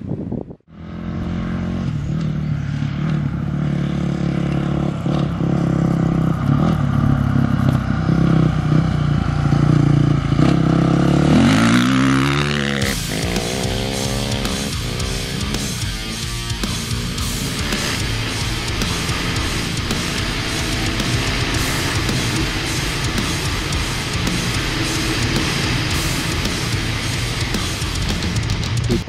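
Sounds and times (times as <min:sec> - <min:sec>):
dirt bike engine passing: 0:00.7 - 0:29.0.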